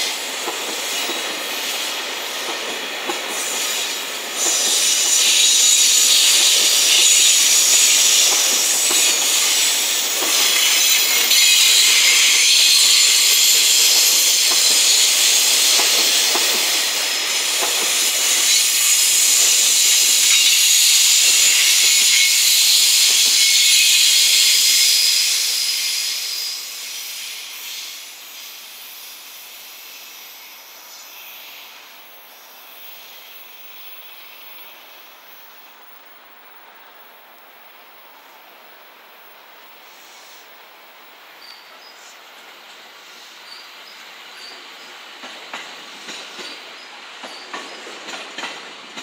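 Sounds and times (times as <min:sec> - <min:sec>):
steel wheels hissing on track: 0:00.0 - 0:49.0.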